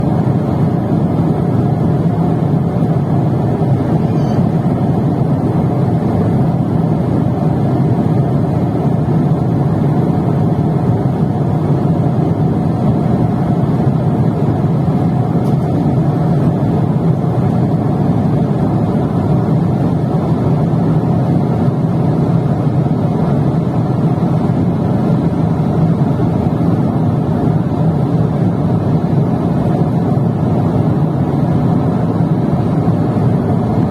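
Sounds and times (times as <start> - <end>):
jet cabin engine rush: 0.0 - 33.9.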